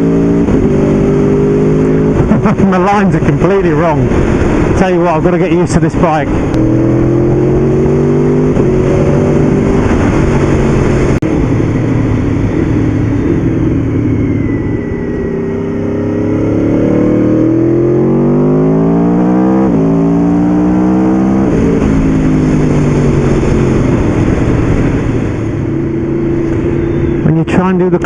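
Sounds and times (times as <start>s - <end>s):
motorcycle engine revving: 0.0s - 28.0s
wind noise: 0.0s - 28.0s.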